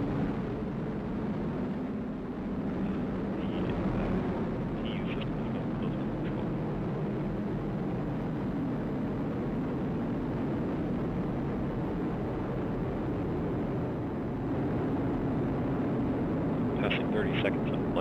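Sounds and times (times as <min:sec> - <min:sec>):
rocket engines rumbling: 0:00.0 - 0:18.0.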